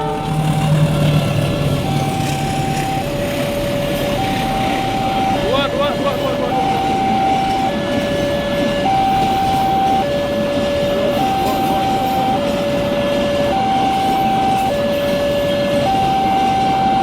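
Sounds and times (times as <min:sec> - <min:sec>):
train passing: 0:00.0 - 0:17.0
two-tone crossing alarm: 0:00.0 - 0:17.0.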